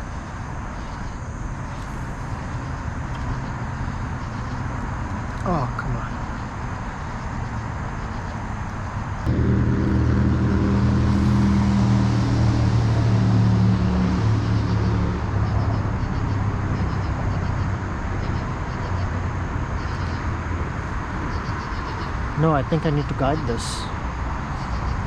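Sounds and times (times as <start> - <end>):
steady rushing noise: 0.0 - 24.8
low engine drone: 0.0 - 25.0.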